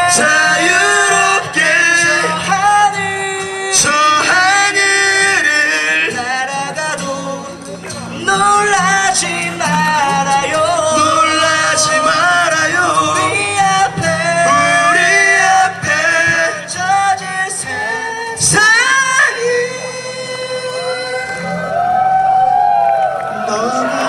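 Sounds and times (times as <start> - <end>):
men singing in harmony: 0.0 - 21.5, 23.4 - 24.0.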